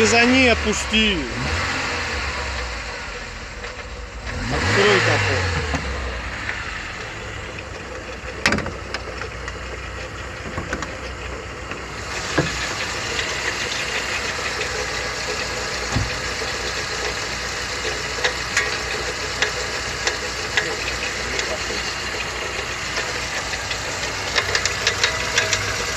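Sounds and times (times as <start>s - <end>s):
car engine idling: 0.0s - 25.9s
water pump knocking and crunching: 0.0s - 25.9s.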